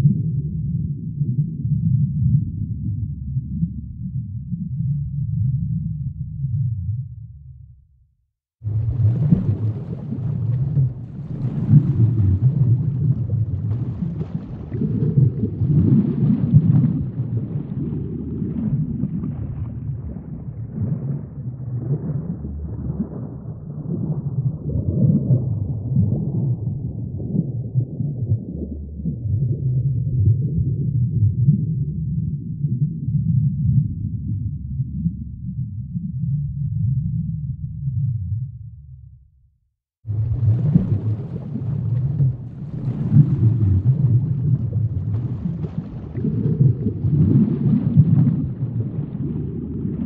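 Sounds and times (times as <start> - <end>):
low muffled rumble: 0.0 - 7.8, 8.6 - 39.4, 40.1 - 50.0.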